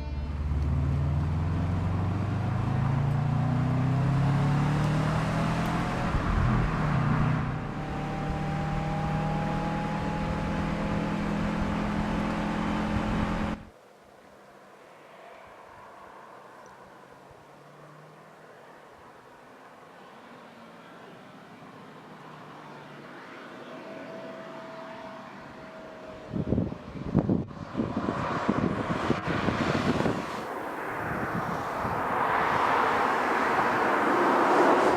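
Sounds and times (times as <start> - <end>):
car engine accelerating: 0.0 - 13.7, 20.6 - 34.9.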